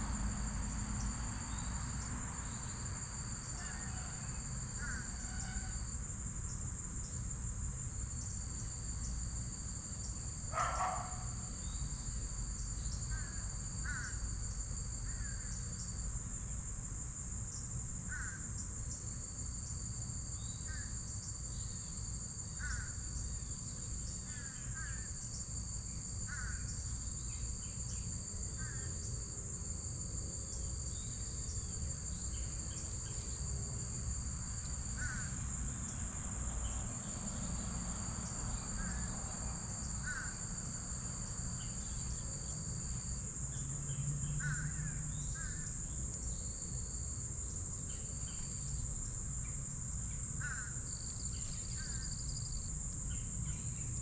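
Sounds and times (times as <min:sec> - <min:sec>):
high insect trill: 0:00.0 - 0:54.0
lower insect trill: 0:00.0 - 0:54.0.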